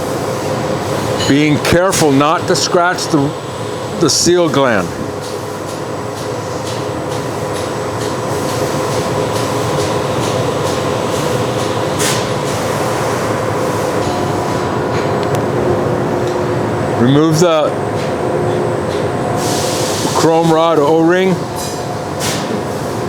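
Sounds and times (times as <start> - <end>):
machinery hum and hiss: 0.0 - 23.0.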